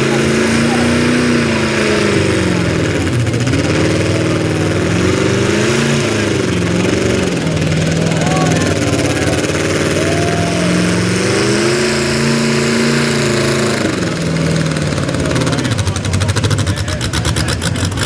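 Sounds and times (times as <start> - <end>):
pulling truck engine running hard: 0.0 - 18.0.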